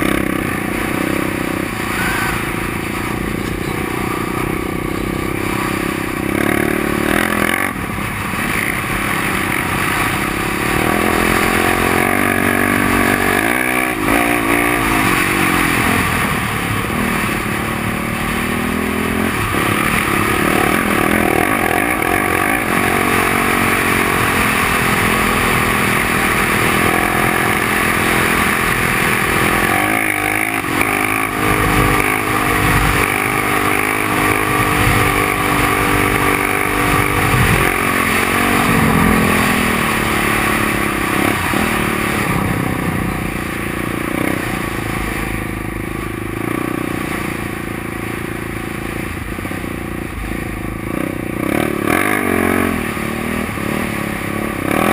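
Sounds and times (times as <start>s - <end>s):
quad engine revving: 0.0s - 54.9s.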